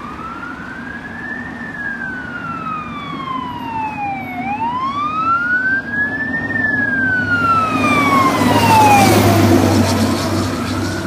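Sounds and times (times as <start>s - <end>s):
heavy truck engine rumbling: 0.0s - 11.0s
siren wailing: 0.0s - 11.0s.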